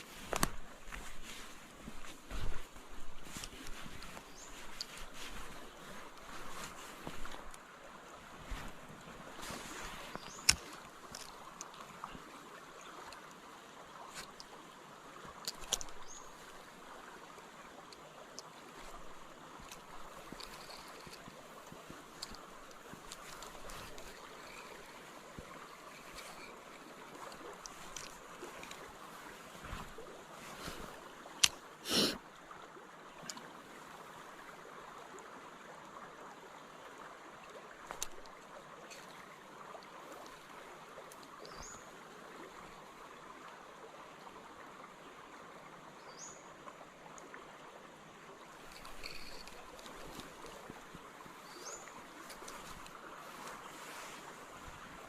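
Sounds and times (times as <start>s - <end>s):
creek flowing: 0.0s - 55.0s.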